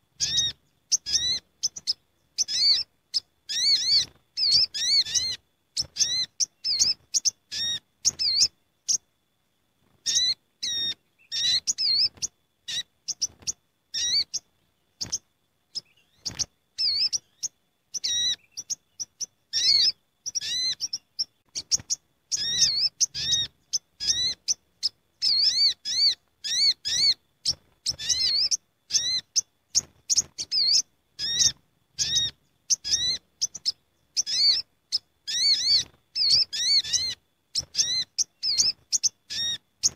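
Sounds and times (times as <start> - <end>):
birds chirping in a flock: 0.0 - 9.1, 9.8 - 39.9.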